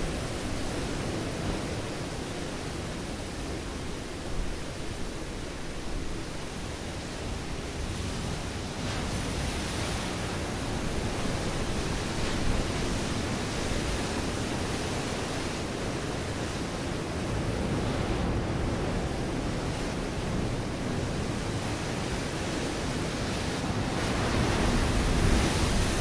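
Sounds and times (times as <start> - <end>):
ocean surf on rocky shore: 0.0 - 26.0.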